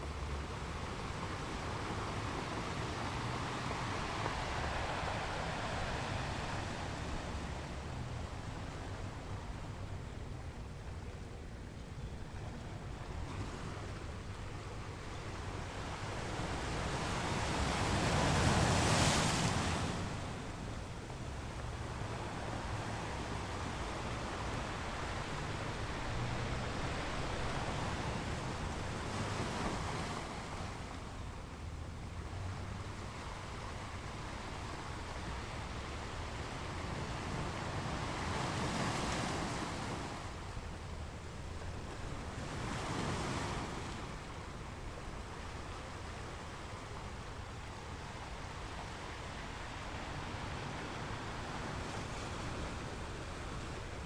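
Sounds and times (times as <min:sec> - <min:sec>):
waves breaking on beach: 0:00.0 - 0:11.0, 0:13.2 - 0:54.0
surf rumble: 0:00.0 - 0:54.0
wind: 0:00.0 - 0:54.0.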